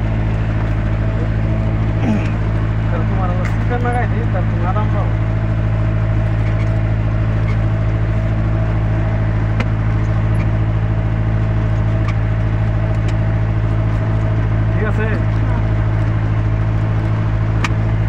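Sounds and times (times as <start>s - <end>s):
excavator engine droning: 0.0s - 18.0s.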